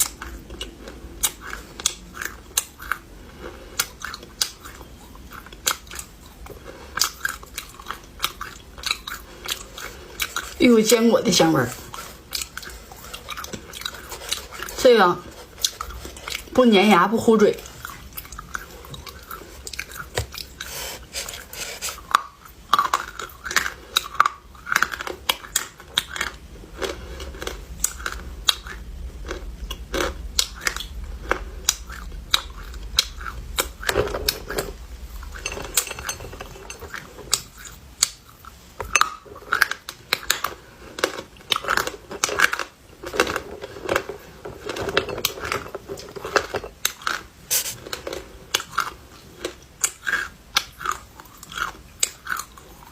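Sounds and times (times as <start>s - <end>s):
clay being chewed: 0.0s - 10.6s, 11.7s - 16.5s, 17.6s - 52.9s.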